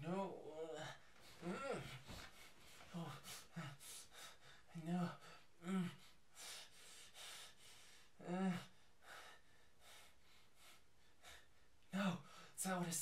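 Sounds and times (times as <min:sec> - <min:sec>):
man breathing heavily: 0:00.7 - 0:12.6
man gasping: 0:00.7 - 0:12.6.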